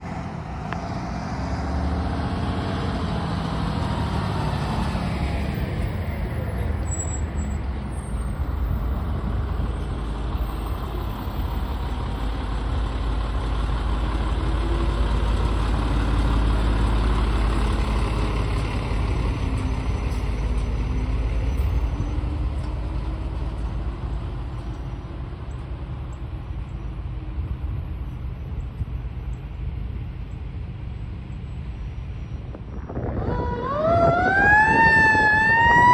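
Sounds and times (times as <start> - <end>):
fire engine diesel engine running: 0.0 - 35.9.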